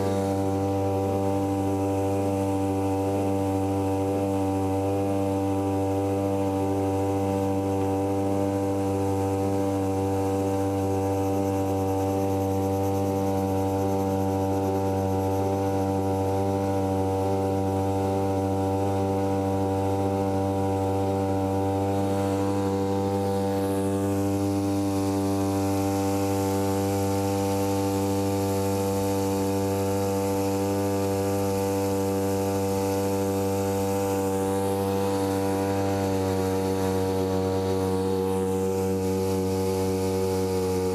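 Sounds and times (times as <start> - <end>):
outboard motor buzzing drone: 0.0 - 40.9.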